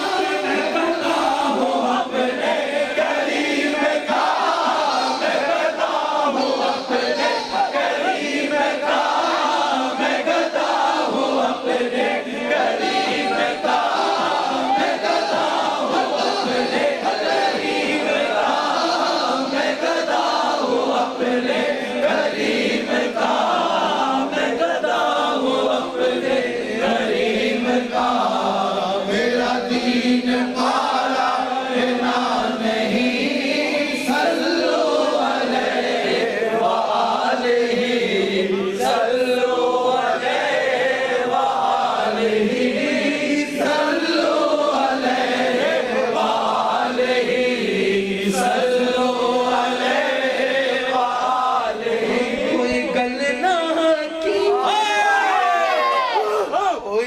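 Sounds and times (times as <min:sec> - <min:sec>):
men singing devotional song: 0:00.0 - 0:54.8.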